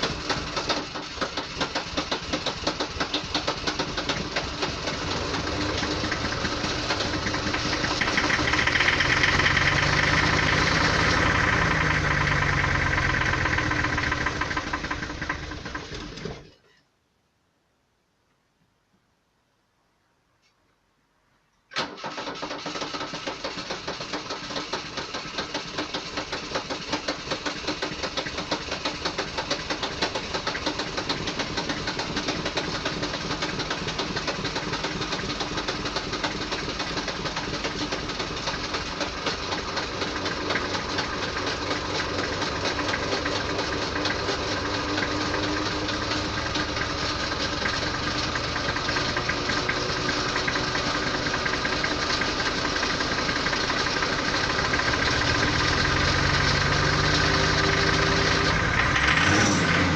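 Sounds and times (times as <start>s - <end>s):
diesel engine knocking clatter: 0.0s - 16.4s, 22.6s - 59.9s.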